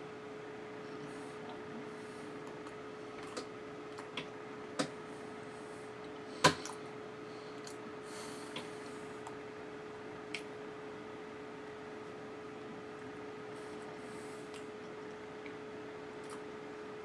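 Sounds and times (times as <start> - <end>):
faint hum and hiss: 0.0 - 17.0.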